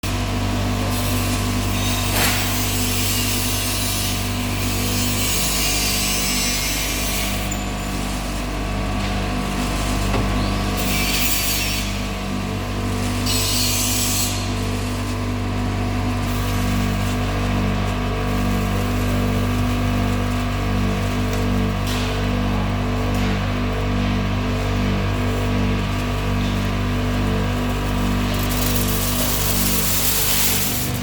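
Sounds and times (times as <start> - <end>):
roasting machine motor hum: 0.0 - 31.0.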